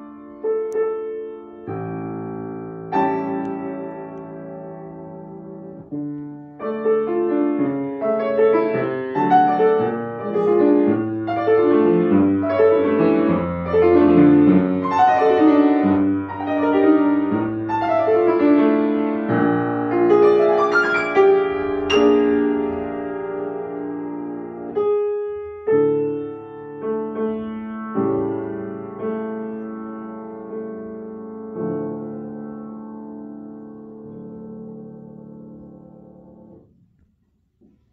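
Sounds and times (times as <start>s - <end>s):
grand piano playing: 0.0s - 36.9s.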